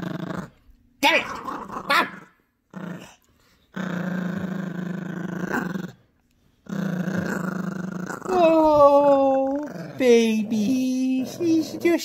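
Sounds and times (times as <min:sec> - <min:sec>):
puppy growling: 0:00.0 - 0:12.0.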